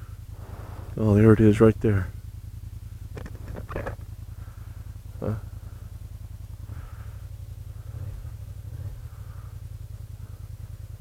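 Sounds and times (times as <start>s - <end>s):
scooter engine running: 0.0s - 11.0s.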